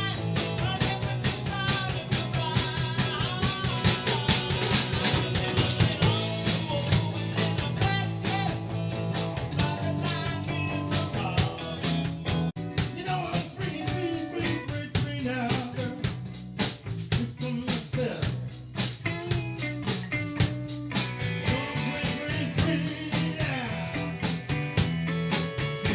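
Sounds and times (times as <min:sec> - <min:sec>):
drum kit beat: 0:00.0 - 0:25.9
electric bass: 0:00.0 - 0:25.9
electric guitars: 0:00.0 - 0:25.9.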